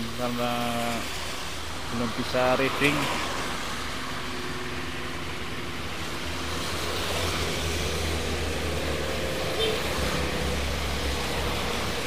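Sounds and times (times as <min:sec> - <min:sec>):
tyres hissing on wet road: 0:00.0 - 0:12.0
van passing: 0:00.0 - 0:12.0.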